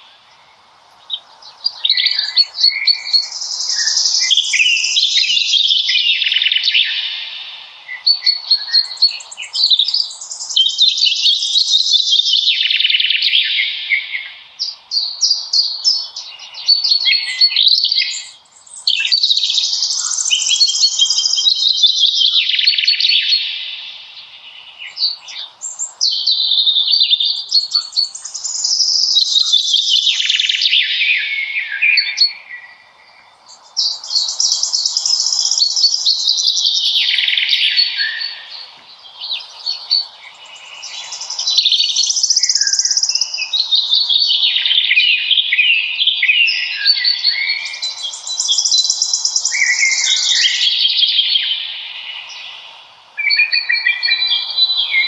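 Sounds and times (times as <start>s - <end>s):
faint steady hiss: 0.0s - 55.0s
songbirds warbling: 0.0s - 55.0s.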